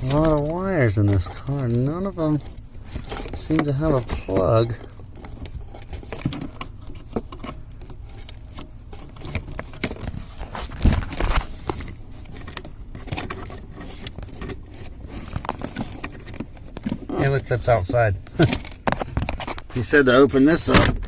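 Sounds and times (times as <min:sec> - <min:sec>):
hands rustling through wiring: 0:00.0 - 0:20.8.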